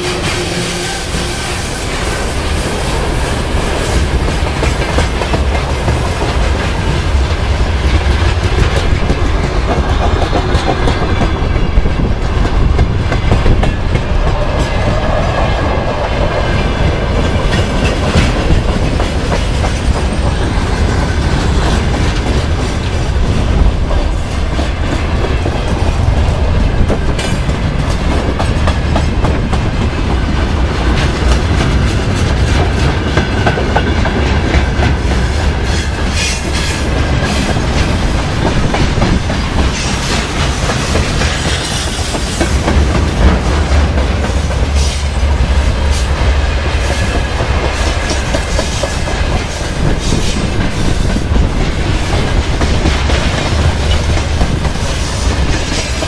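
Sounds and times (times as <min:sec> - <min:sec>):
heavy train rumble: 0:00.0 - 0:56.0
train wheels clattering on rails: 0:00.0 - 0:56.0.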